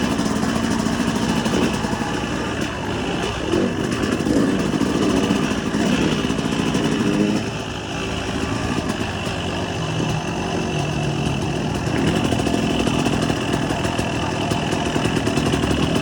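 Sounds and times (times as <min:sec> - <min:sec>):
motocross bike engine running: 0:00.0 - 0:16.0.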